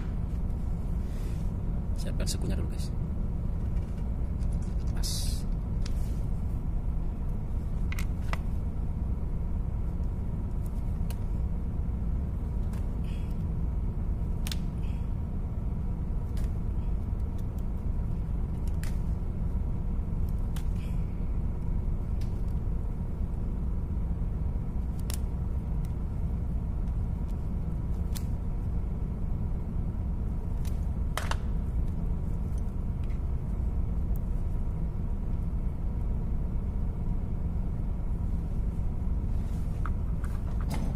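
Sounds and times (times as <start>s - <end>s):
machinery rumbling: 0.0s - 40.9s.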